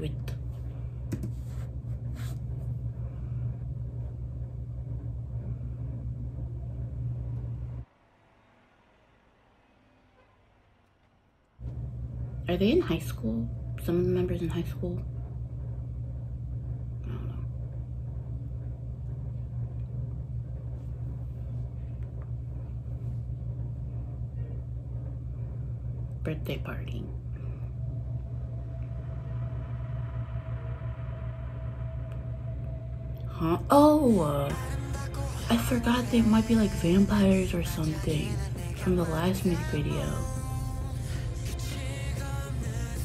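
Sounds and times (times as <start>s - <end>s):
low background rumble: 0.0s - 43.0s.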